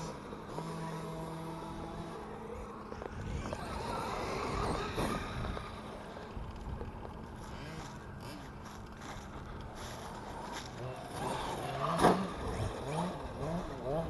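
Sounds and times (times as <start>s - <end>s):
rc truck motors revving: 0.0s - 14.0s.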